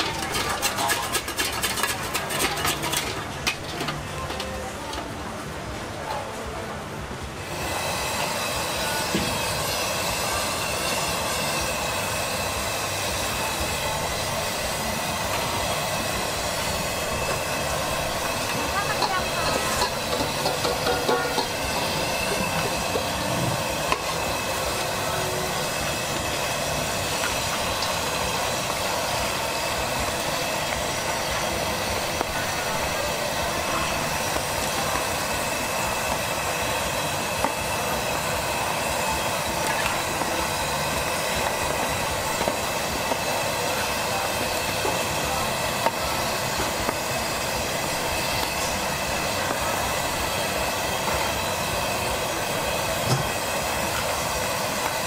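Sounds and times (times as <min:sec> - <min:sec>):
food deep-frying in oil: 0:00.0 - 0:05.1, 0:07.4 - 0:55.0.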